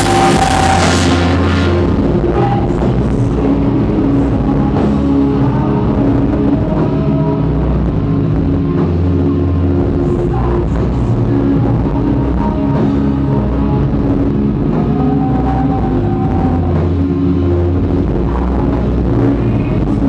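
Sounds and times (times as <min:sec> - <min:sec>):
distorted guitar chords: 0:00.0 - 0:20.0
live rock band playing: 0:00.0 - 0:20.0.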